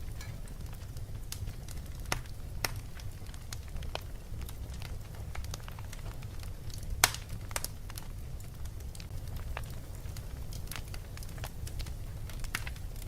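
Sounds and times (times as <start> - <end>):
fireplace crackling: 0.0 - 13.0.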